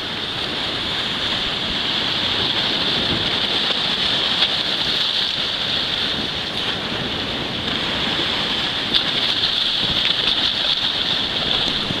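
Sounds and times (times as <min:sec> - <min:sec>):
sea surf rushing: 0:00.0 - 0:12.0
wind on microphone: 0:00.0 - 0:12.0.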